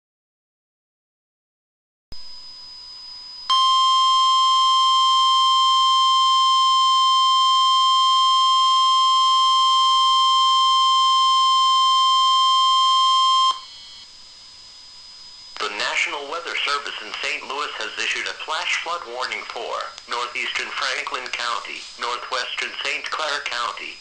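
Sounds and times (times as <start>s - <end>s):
loud steady alarm tone: 2.7s - 14.1s, 15.2s - 24.0s.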